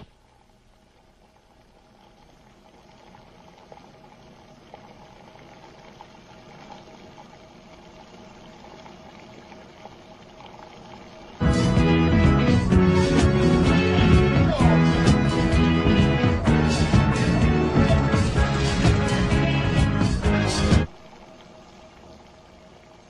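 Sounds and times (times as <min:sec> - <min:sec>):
water boiling: 0:00.0 - 0:23.0.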